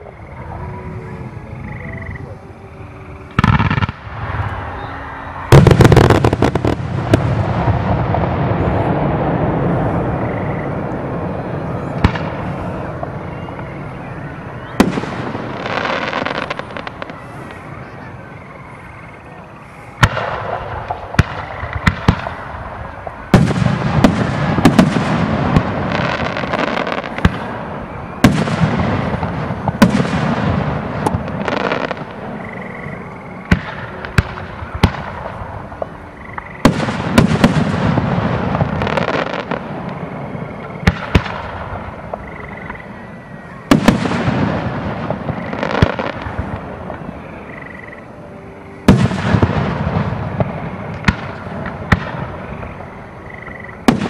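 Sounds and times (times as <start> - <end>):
fireworks launching and bursting: 3.3 - 4.7, 5.4 - 17.7, 20.0 - 32.5, 33.4 - 42.8, 43.6 - 47.1, 48.8 - 52.9, 53.8 - 54.0.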